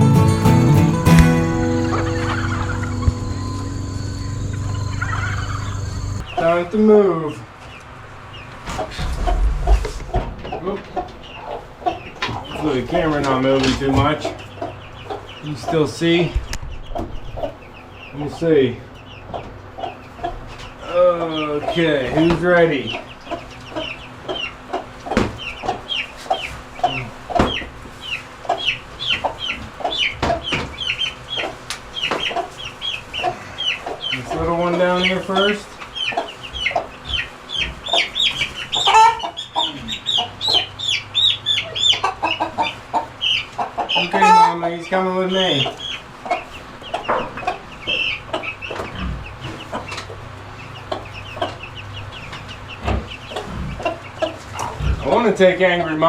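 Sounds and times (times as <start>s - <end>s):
chicks peeping: 0.0s - 56.0s
hen clucking: 0.8s - 6.7s, 7.7s - 56.0s.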